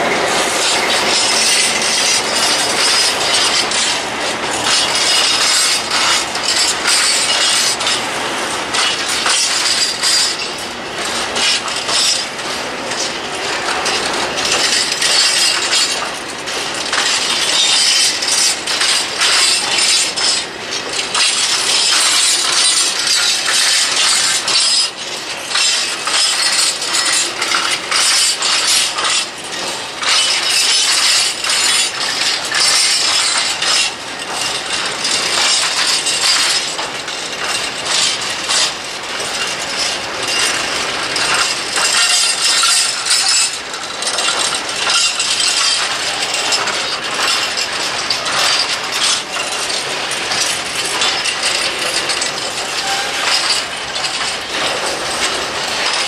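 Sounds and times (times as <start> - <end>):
train wagons clattering on rails: 0.0 - 56.0.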